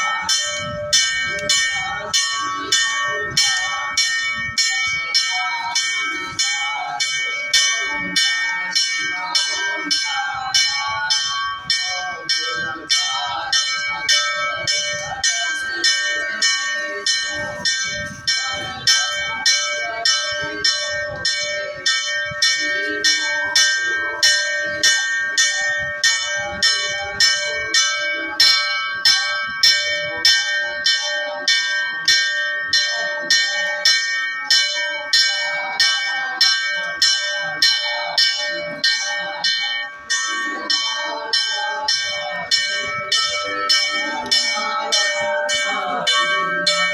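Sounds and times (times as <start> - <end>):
temple bell ringing: 0.0 - 46.9.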